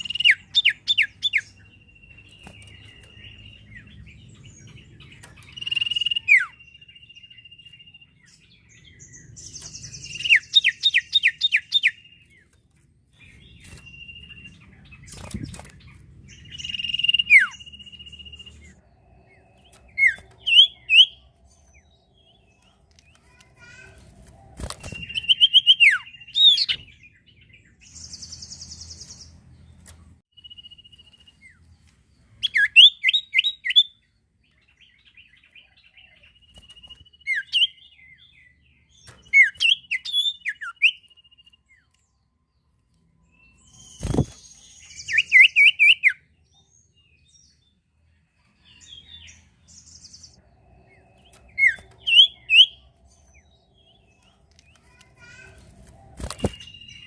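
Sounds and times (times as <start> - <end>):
songbird chirping and whistling: 0.0 - 12.6, 13.2 - 22.6, 24.6 - 29.3, 30.3 - 31.8, 32.4 - 42.2, 43.2 - 47.6, 48.5 - 55.4, 56.2 - 57.0.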